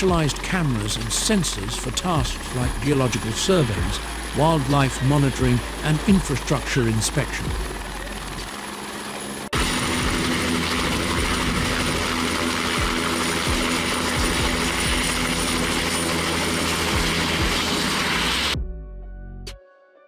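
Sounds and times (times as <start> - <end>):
helicopter rotor rushing: 0.0 - 18.6
helicopter turbine whine: 0.0 - 18.6.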